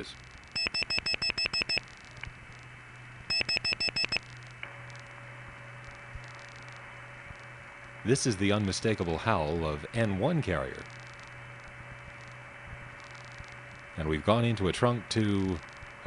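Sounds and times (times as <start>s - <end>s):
line hiss with constant whine: 0.0s - 16.0s.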